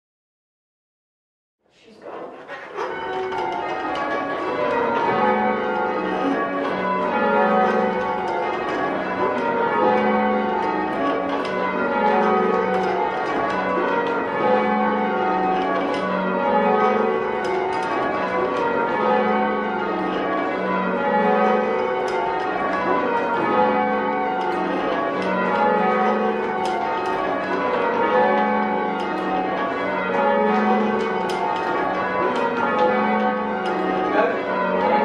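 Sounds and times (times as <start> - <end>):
church bells change ringing: 2.4 - 35.0.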